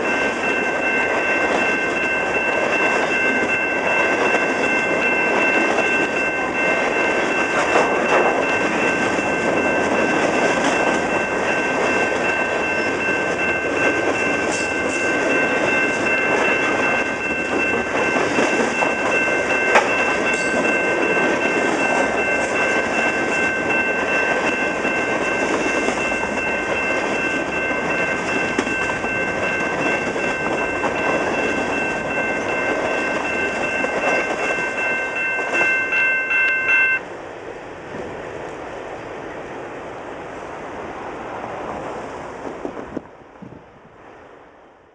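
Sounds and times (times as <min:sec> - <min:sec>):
thin high ringing tone: 0:00.0 - 0:37.0.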